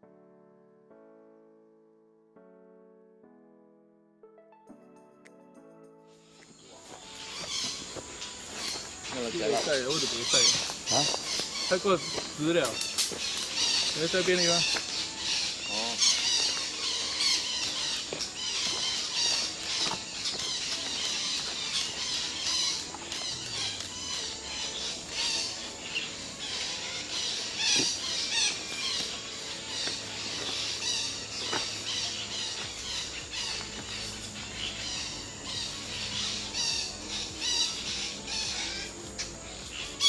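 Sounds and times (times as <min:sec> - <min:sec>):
parrots squawking and chirping: 0:07.0 - 0:40.0.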